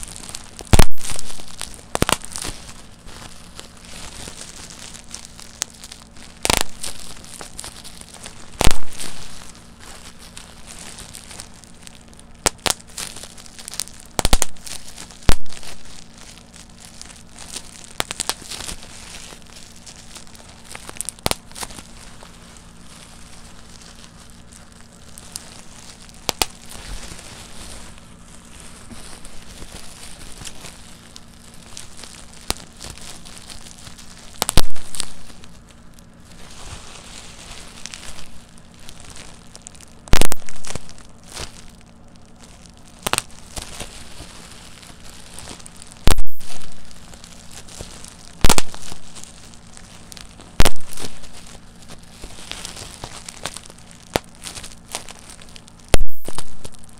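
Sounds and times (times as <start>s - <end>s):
bubble wrap bubbles popping: 0.0s - 56.9s
bubble wrap crinkling: 0.0s - 56.9s.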